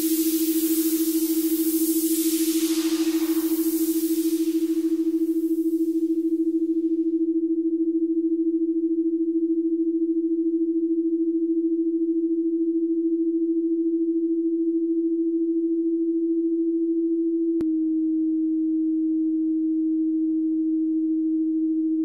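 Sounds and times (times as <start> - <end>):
low pulsing electronic tone: 0.0 - 22.0.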